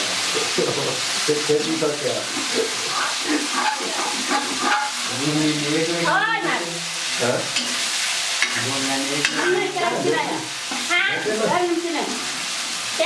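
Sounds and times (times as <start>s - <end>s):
stirring in a pan: 0.0s - 13.0s
vegetables sizzling in a pan: 0.0s - 13.0s.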